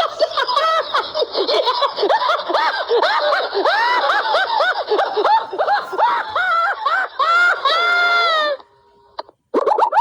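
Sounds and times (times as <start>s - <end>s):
high-pitched snickering laughter: 0.0s - 8.6s.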